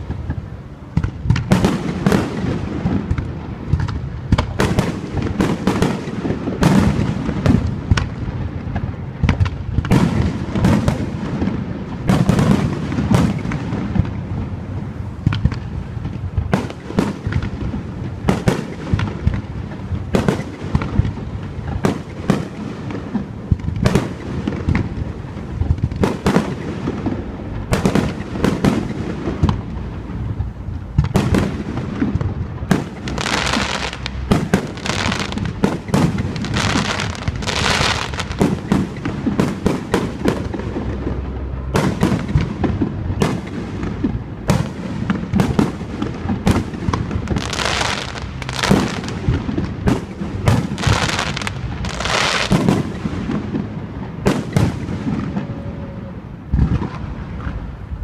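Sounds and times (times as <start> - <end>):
continuous low rumble: 0.0 - 58.0
fireworks bangs and bursts: 0.0 - 58.0.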